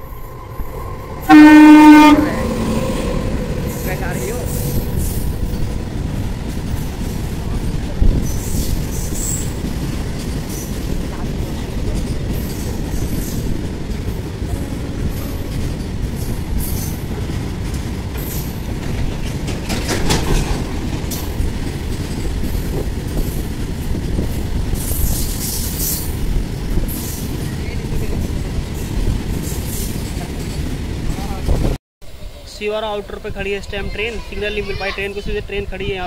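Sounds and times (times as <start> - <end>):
train wheels rumbling on rails: 0.0 - 31.8.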